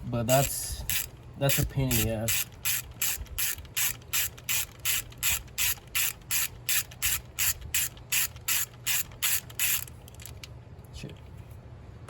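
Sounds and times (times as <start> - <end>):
ratchet wrench clicking: 0.4 - 10.5.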